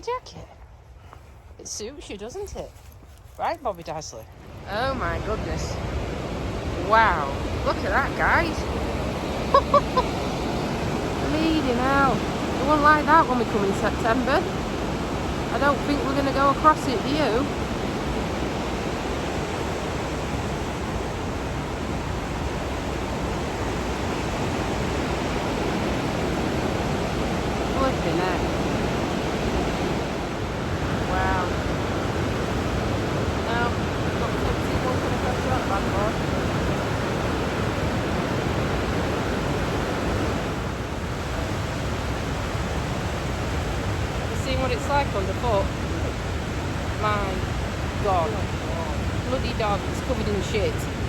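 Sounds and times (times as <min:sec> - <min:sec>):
river and waterfall rushing: 0:04.4 - 0:51.0.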